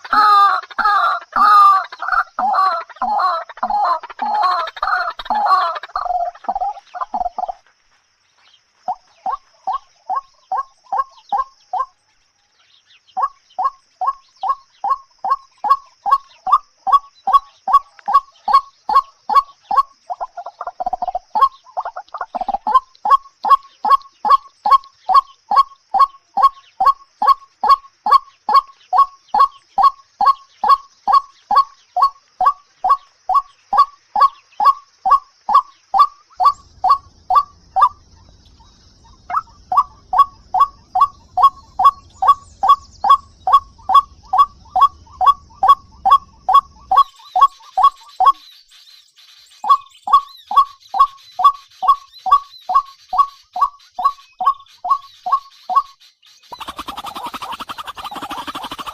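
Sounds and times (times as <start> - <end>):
bird calling: 0.0 - 7.7, 8.4 - 58.9.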